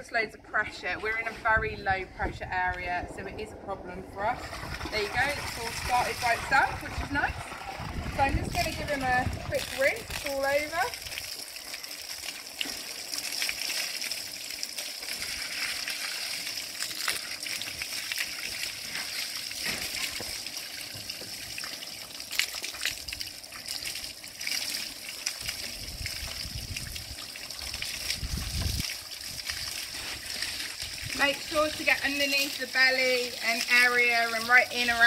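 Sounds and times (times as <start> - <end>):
hose water spraying: 4.2 - 35.0
water splashing and dribbling on wood: 4.2 - 35.0.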